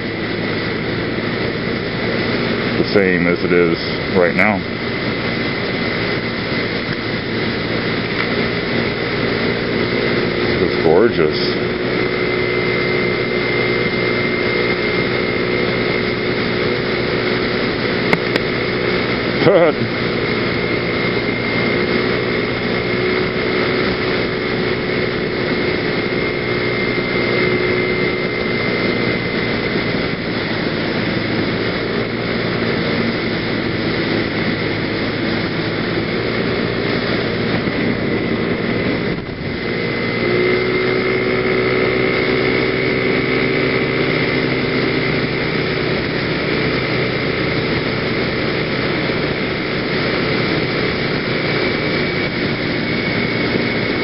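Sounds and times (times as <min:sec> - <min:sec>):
scooter engine running: 0:00.0 - 0:54.0
wind rush on microphone: 0:00.0 - 0:54.0.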